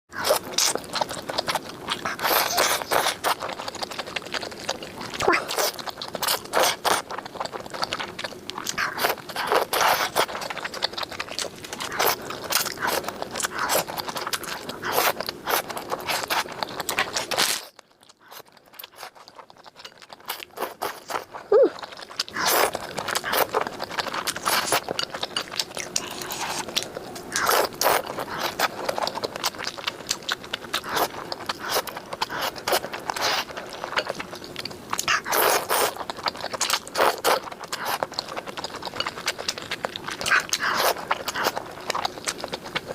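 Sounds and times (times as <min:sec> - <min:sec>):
chewing and crunchy bites: 0:00.1 - 0:42.9.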